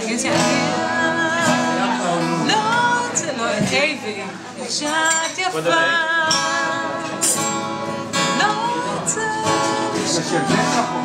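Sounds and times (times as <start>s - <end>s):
strummed acoustic guitar: 0.0s - 11.0s
woman singing: 0.0s - 11.0s.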